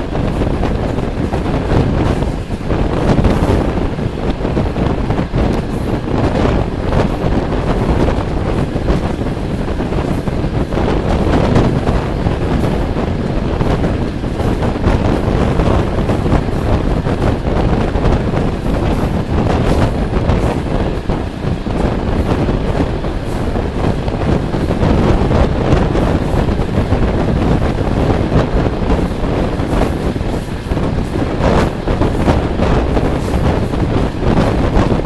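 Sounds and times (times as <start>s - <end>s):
train wheels rumbling on rails: 0.0s - 35.0s
wind buffeting microphone: 0.0s - 35.0s.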